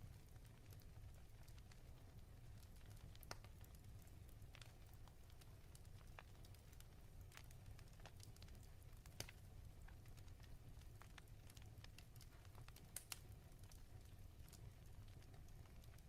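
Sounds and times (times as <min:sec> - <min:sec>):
faint fireplace crackling: 0:00.0 - 0:16.0.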